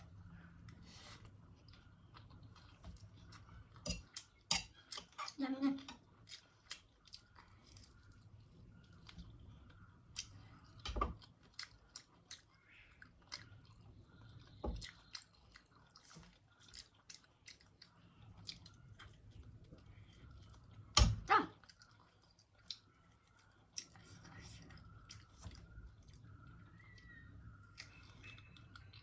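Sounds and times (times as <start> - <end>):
chewing and lip-smacking: 0.1 - 29.0.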